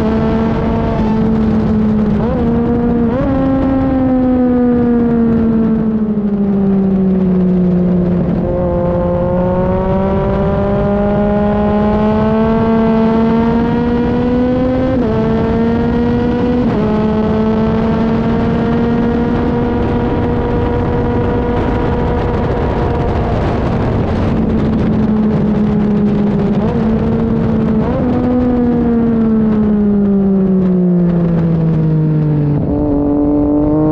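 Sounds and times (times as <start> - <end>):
motorcycle engine accelerating: 0.0 - 33.9
wind on microphone: 0.0 - 33.9.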